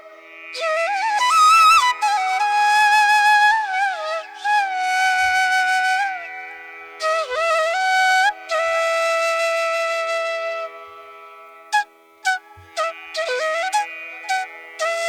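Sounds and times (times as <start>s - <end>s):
flute playing long notes: 0.6s - 6.3s, 7.0s - 11.2s, 11.8s - 15.0s.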